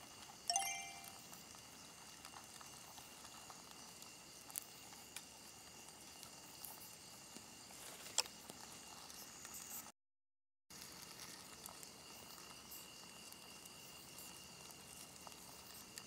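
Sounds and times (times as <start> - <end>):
insects trilling: 0.0 - 9.9, 10.7 - 16.0.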